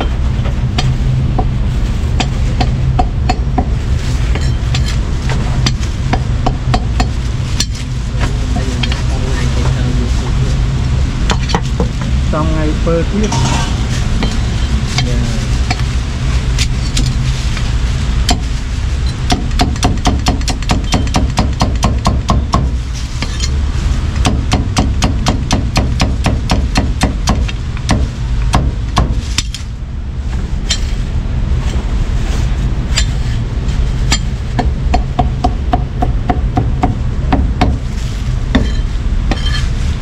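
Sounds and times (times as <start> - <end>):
low rumble: 0.0 - 19.6, 22.6 - 25.8, 27.1 - 40.0.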